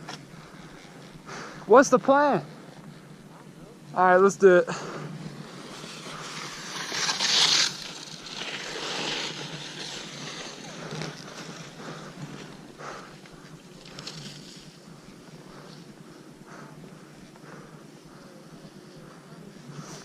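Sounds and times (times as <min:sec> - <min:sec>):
skis scraping over snow: 0:00.0 - 0:20.0.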